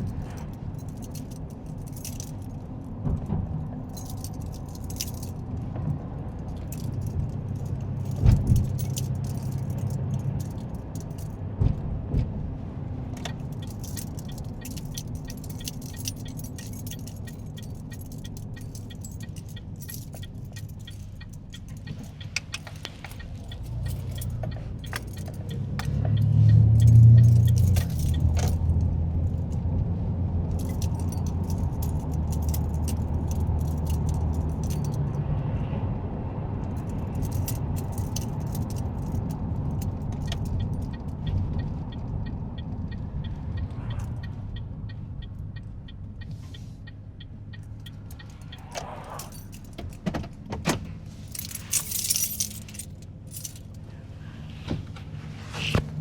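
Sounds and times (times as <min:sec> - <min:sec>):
light rattling clicks and jingles: 0:00.0 - 0:11.4, 0:13.2 - 0:29.7, 0:30.4 - 0:35.2, 0:36.6 - 0:53.9
car engine and road rumble: 0:00.0 - 0:56.0.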